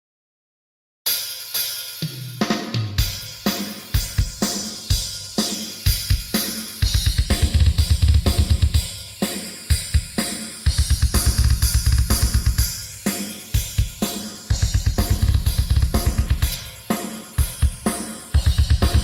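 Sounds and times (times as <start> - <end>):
drum kit beat: 1.1 - 19.0
fast bass drum runs: 3.0 - 9.0, 9.7 - 19.0.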